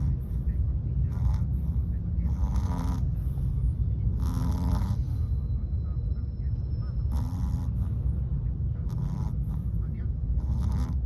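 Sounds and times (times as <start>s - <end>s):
dog snoring: 0.0s - 5.7s, 6.9s - 11.0s.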